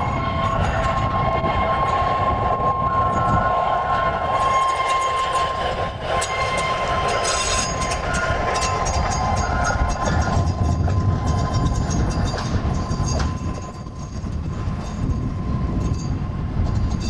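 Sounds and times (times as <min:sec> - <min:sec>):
low rumble of train wheels: 0:00.0 - 0:17.0
rail wheels squealing: 0:00.0 - 0:17.0
sharp clicks of wheels on track: 0:00.0 - 0:17.0.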